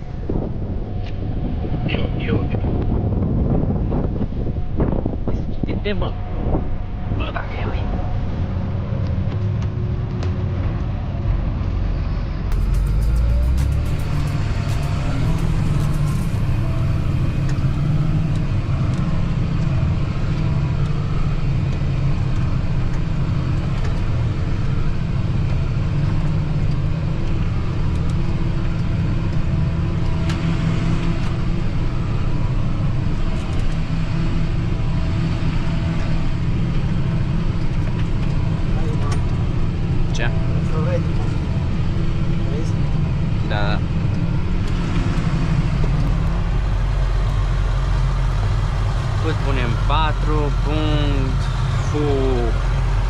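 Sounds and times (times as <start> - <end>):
tractor diesel engine running: 6.5 - 53.0.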